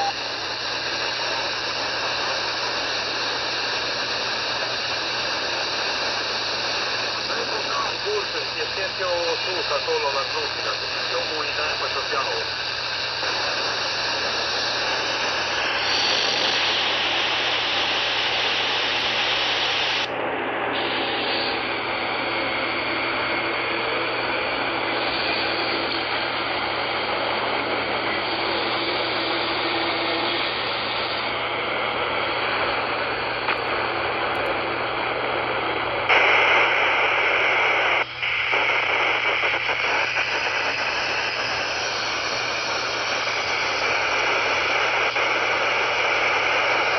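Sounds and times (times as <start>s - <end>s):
radio static hiss: 0.0s - 46.9s.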